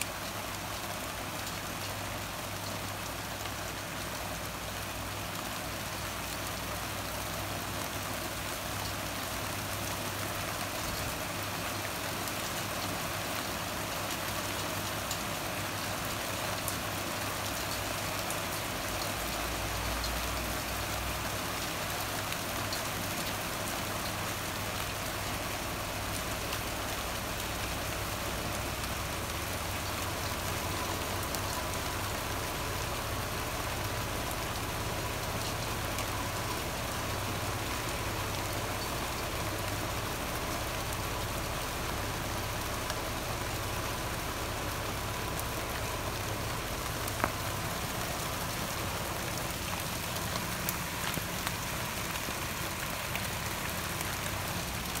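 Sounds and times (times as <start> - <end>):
rain falling on plants: 0.0 - 55.0.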